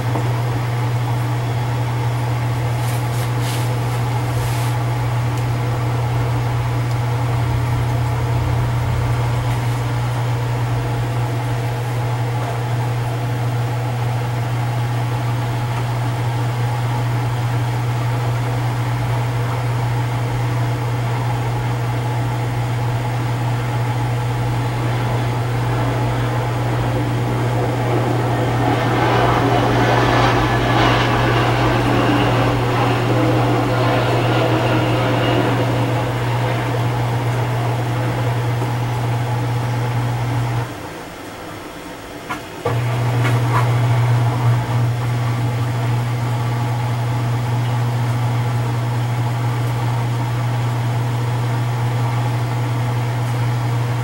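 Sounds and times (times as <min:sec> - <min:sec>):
washing machine drain pump humming: 0:00.0 - 0:54.0.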